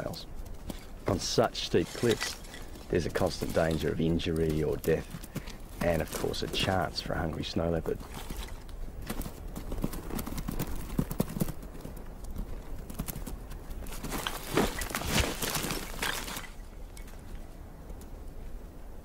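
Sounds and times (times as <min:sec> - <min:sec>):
hooves clattering on rock: 0:00.0 - 0:18.2.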